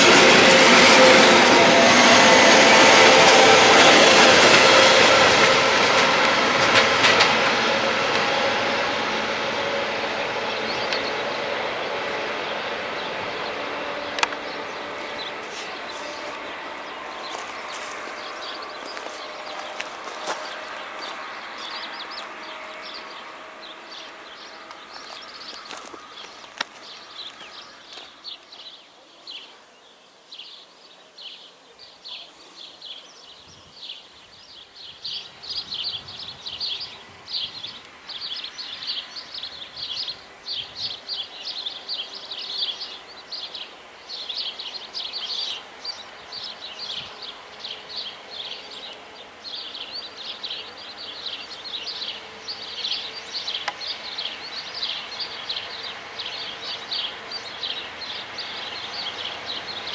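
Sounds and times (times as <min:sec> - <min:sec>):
faint distant railway hum: 0:00.0 - 0:59.9.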